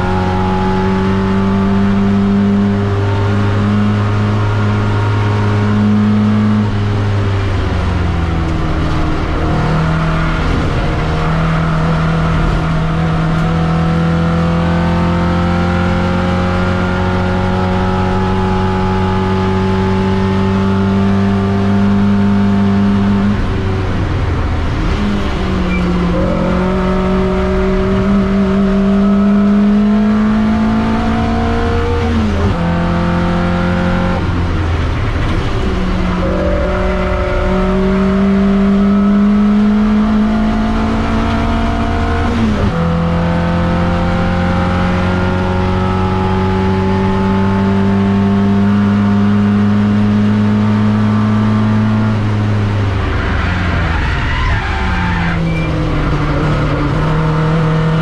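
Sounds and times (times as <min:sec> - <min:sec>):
race car engine at full throttle: 0:00.0 - 0:58.0.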